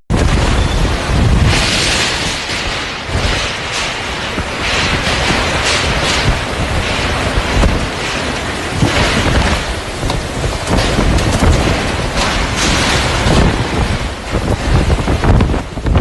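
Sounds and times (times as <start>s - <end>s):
wind buffeting microphone: 0.1s - 16.0s.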